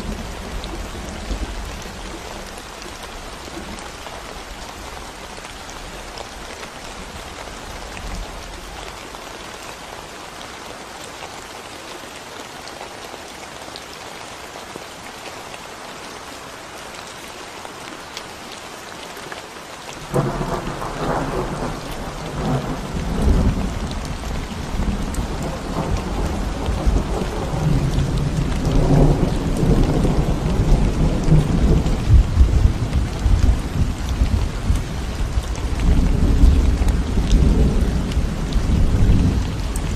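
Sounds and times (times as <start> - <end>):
rain falling on concrete road: 0.0 - 39.9.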